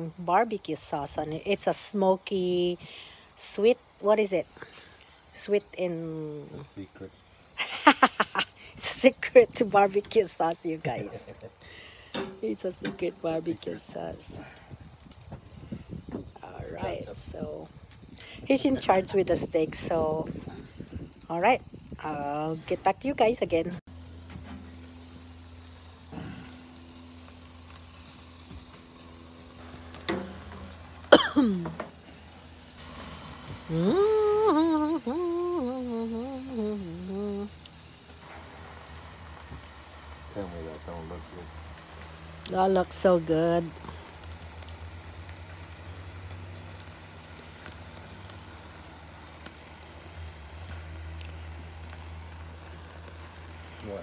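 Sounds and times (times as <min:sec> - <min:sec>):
steaks sizzling on a grill: 0:00.0 - 0:54.0
small crackles: 0:00.8 - 0:23.3, 0:23.9 - 0:54.0.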